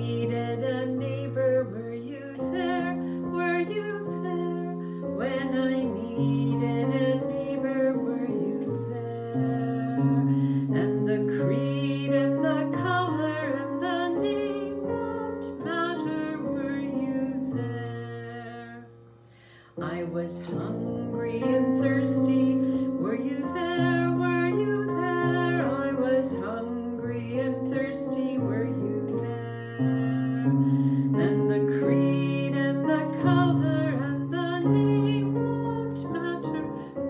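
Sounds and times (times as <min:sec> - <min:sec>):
woman singing a hymn: 0:00.0 - 0:19.0, 0:19.7 - 0:37.0.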